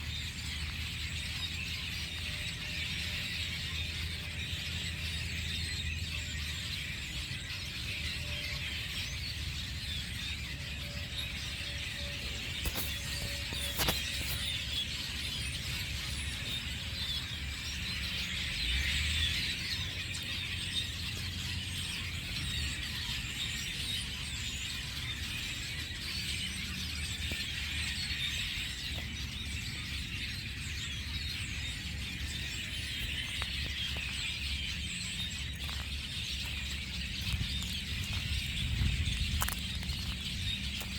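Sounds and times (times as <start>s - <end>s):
flock of birds chirping: 0.0s - 40.9s.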